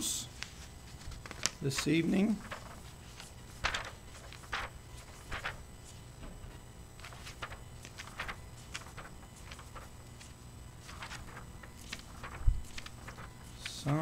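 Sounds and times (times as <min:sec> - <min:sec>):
low steady hum: 0:00.0 - 0:14.0
paper pages rustling: 0:00.3 - 0:14.0.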